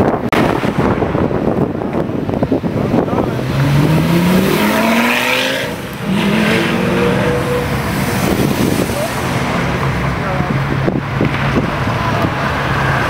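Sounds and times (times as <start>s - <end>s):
sports car engine accelerating: 1.3s - 13.0s.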